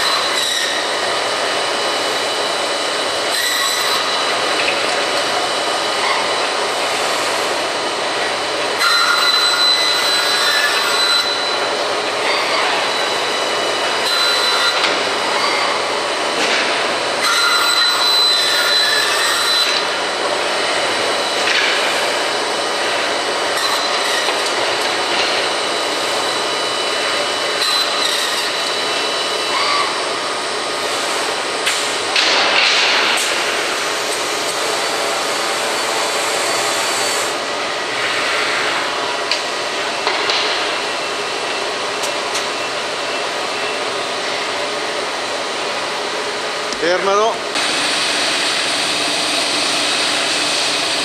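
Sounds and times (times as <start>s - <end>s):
industrial bandsaw machine running: 0.0s - 51.0s.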